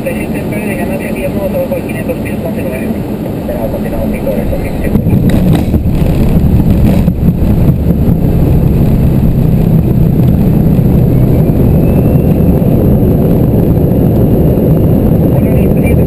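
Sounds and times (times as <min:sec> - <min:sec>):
airliner engine noise: 0:00.0 - 0:16.0.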